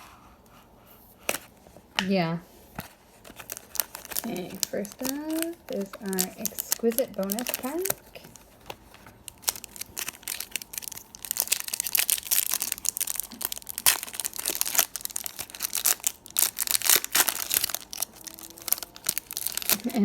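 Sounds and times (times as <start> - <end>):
wrapper tearing and crinkling: 3.1 - 20.0.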